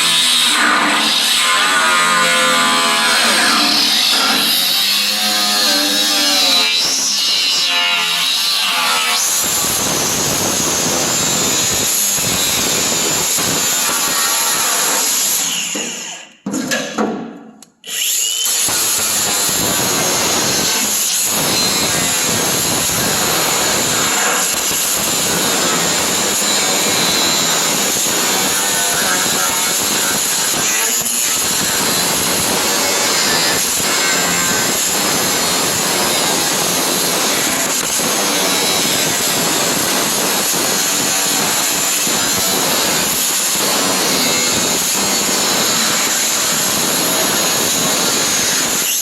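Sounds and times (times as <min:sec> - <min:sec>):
power tool cutting: 0:00.0 - 0:16.2, 0:17.8 - 0:49.0.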